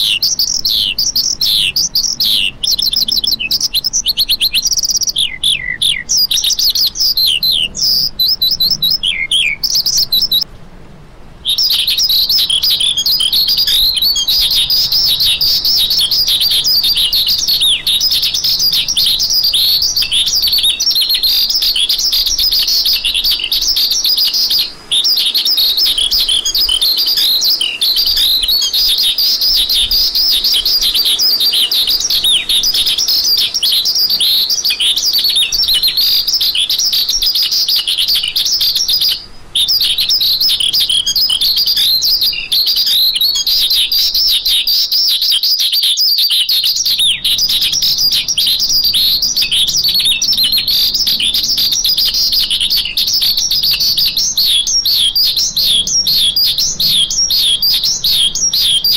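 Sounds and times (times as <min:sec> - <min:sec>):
lark singing chirps and trills: 0:00.0 - 0:10.5, 0:11.4 - 0:58.9.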